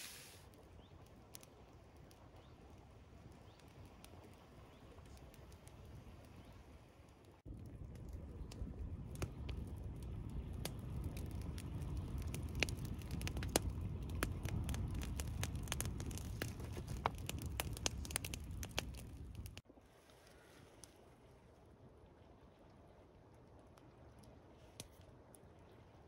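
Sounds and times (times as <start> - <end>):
campfire crackling and popping: 0.0 - 19.6, 23.2 - 25.8
low rumble of flames: 0.0 - 26.0.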